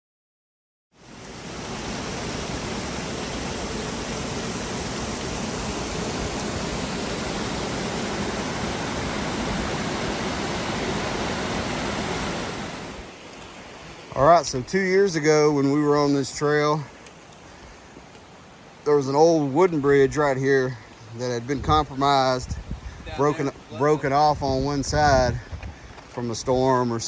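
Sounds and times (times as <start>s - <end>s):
creek cascades rushing: 1.0s - 27.0s.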